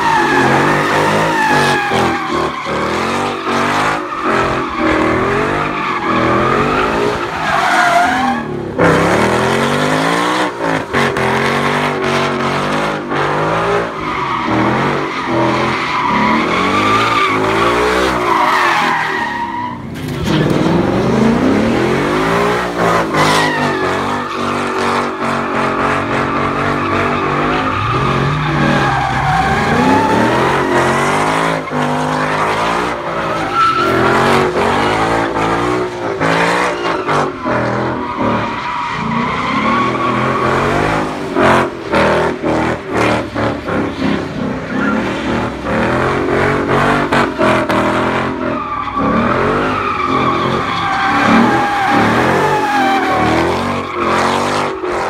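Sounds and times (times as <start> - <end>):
tyres squealing: 0.0 - 9.1, 13.8 - 41.1, 46.2 - 55.0
car engine revving: 0.0 - 55.0.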